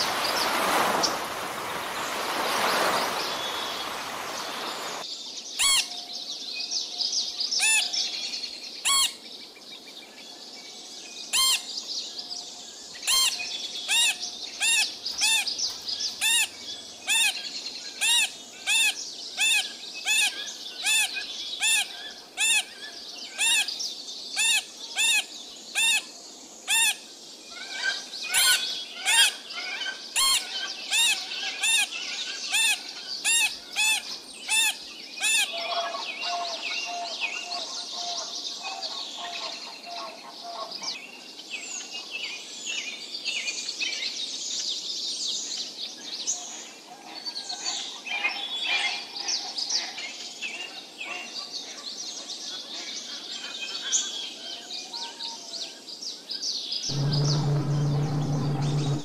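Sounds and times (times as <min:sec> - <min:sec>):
background birds chirping: 0:00.0 - 0:59.0.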